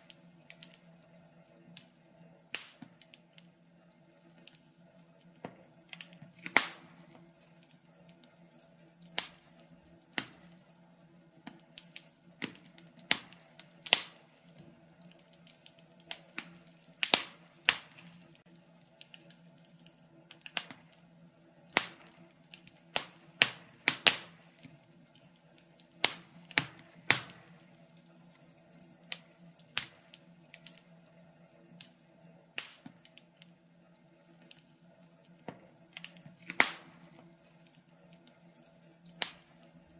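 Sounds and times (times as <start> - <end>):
faint steady low hum: 0.0 - 39.9
wood fire crackling: 0.0 - 39.9.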